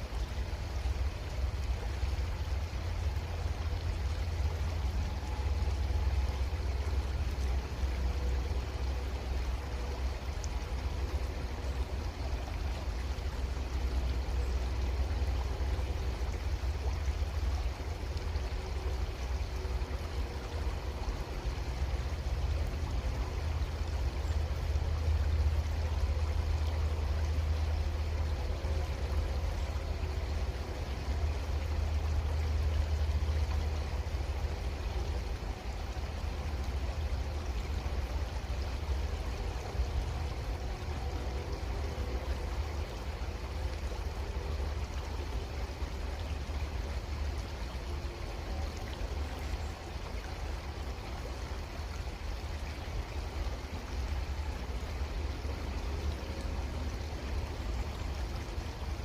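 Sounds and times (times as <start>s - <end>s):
creek water trickling: 0.0s - 59.0s.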